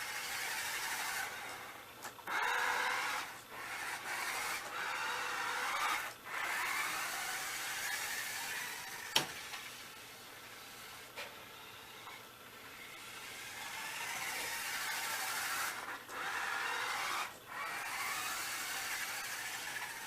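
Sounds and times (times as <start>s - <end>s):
wheels running on floor: 0.0s - 11.3s, 13.0s - 20.0s
toy car motor whirring: 0.0s - 12.1s, 12.7s - 20.0s.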